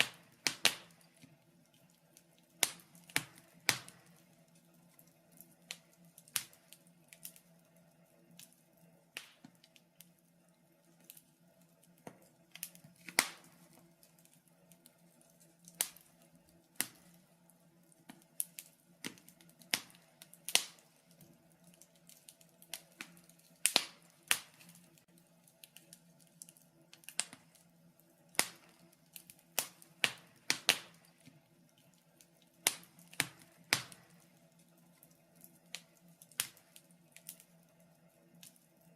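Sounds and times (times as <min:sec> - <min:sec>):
low steady hum: 0:00.0 - 0:38.9
wood fire crackling: 0:00.0 - 0:38.9.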